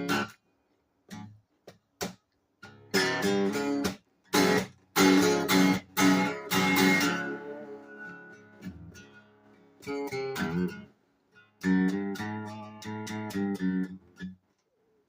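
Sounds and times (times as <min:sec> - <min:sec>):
acoustic guitar blues: 0:00.0 - 0:00.4, 0:02.6 - 0:14.4.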